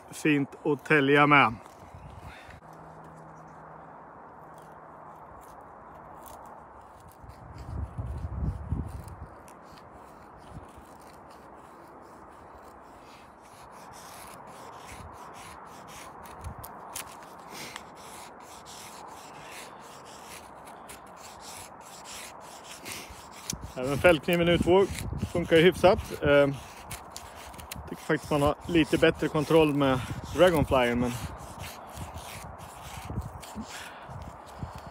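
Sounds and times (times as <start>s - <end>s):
knife scraping wood: 0.0s - 3.7s, 4.3s - 34.9s.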